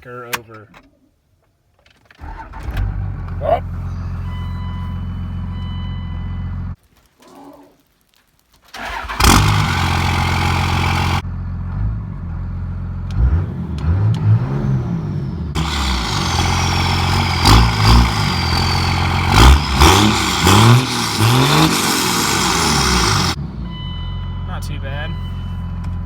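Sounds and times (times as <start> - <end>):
diesel engine starting and revving: 2.2 - 6.8, 8.8 - 26.0.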